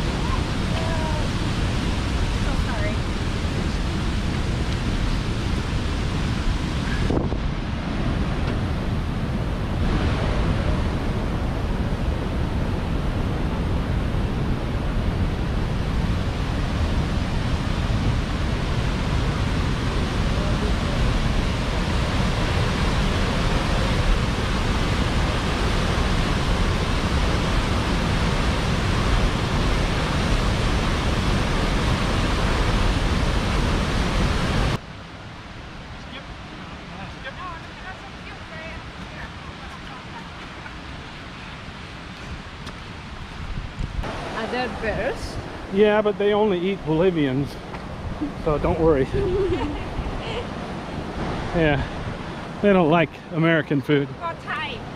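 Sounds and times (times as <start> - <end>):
rushing mountain creek: 0.0 - 54.9.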